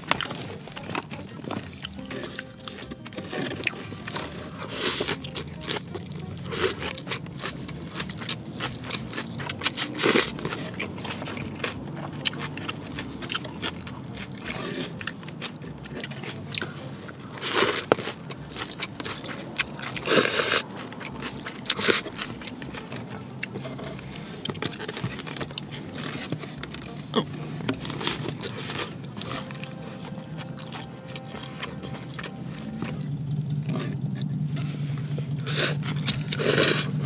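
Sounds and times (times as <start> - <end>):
noodles slurped: 0.0 - 33.0, 34.6 - 37.0
chewing with wet mouth clicks: 0.0 - 37.0.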